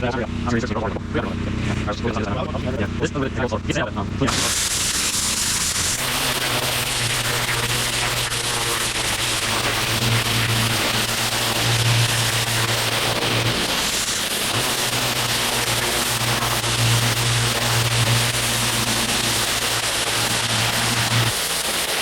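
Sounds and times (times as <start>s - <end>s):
pressure washer engine humming: 0.0s - 22.0s
high-pressure water spray hiss: 4.3s - 22.0s.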